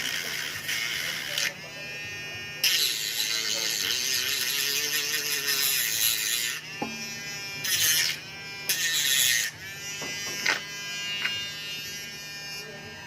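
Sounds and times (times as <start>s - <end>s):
rotary tool grinding: 0.0s - 12.8s.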